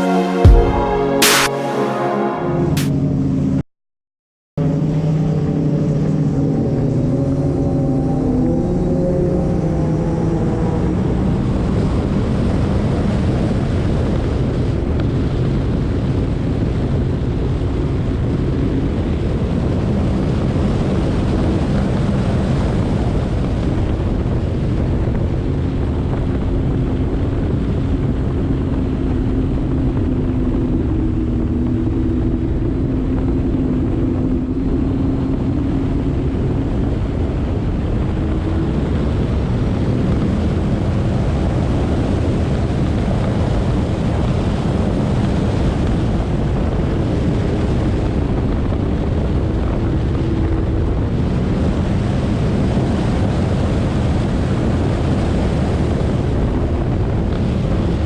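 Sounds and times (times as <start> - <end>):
personal watercraft engine running: 4.6 - 58.0
wind noise on microphone: 4.8 - 58.0.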